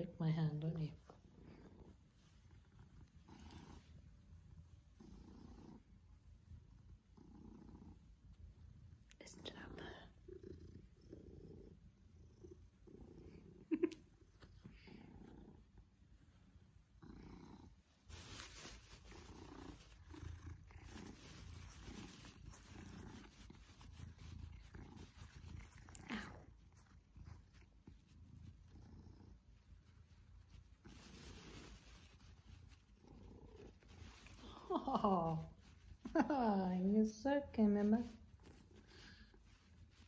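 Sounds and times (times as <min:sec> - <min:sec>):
cat purring: 0:00.0 - 0:40.0.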